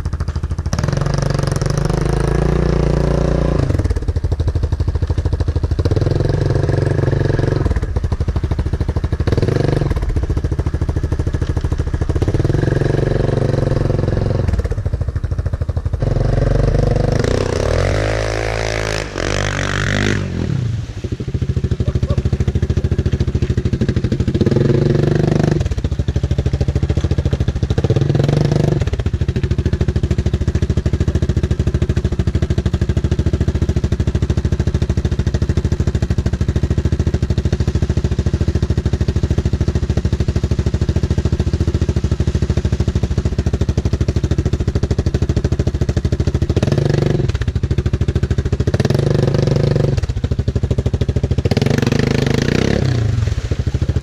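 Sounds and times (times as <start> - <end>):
atv engine running with throttle surges: 0.0 - 54.0.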